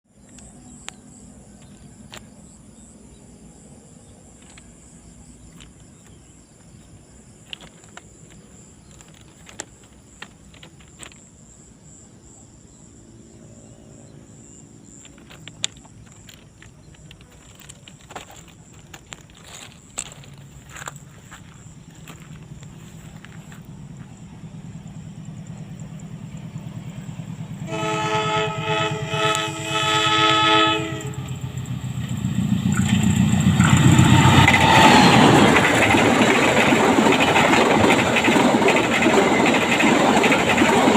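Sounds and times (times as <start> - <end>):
insect chirring: 0.2 - 39.7.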